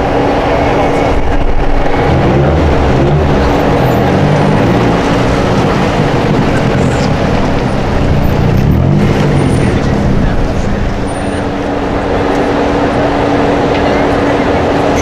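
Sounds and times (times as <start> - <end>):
car engine running loudly: 0.0 - 15.0.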